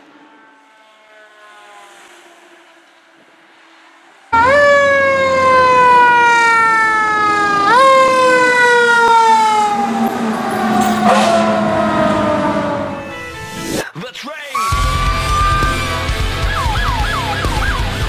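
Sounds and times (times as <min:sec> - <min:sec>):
fire engine siren wailing: 0:00.0 - 0:13.8, 0:14.6 - 0:18.0.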